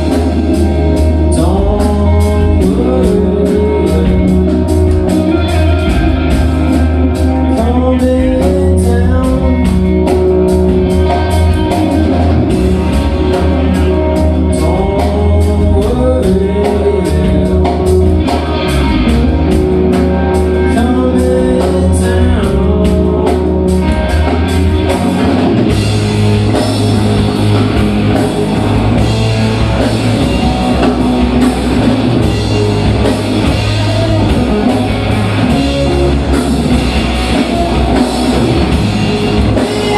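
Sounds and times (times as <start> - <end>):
person singing: 0.0 - 25.4, 29.0 - 39.9
rock band playing live: 0.0 - 39.9.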